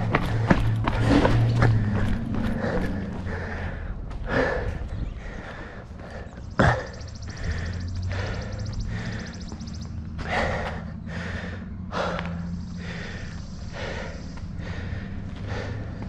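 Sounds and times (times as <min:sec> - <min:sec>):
runner breathing hard: 0:00.0 - 0:16.0.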